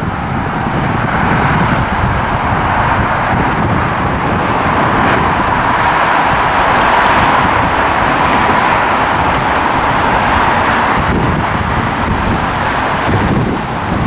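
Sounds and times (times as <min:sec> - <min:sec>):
jet airliner engines running: 0:00.0 - 0:14.0
wind buffeting microphone: 0:00.0 - 0:14.0.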